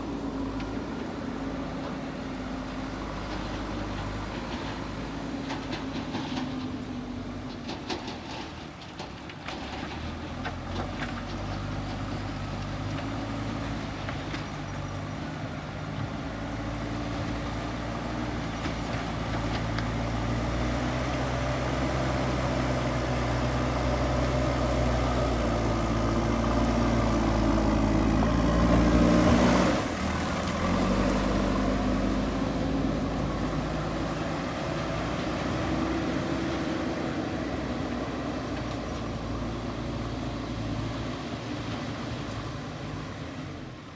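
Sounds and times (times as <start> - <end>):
diesel engine working under load: 0.0 - 43.9.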